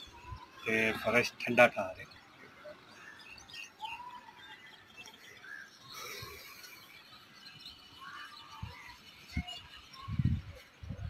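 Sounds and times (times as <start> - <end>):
faint bird chirps and calls: 0.0 - 11.0.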